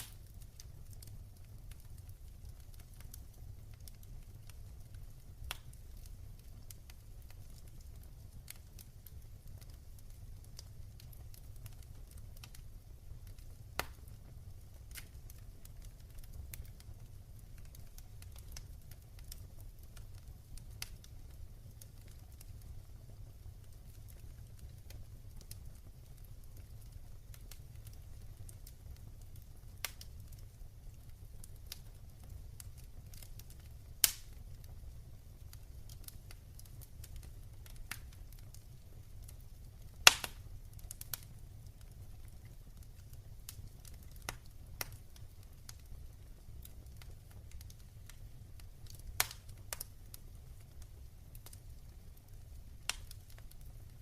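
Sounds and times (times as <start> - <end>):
fire crackling and popping: 0.0 - 54.0
low rumble of fire: 0.0 - 54.0.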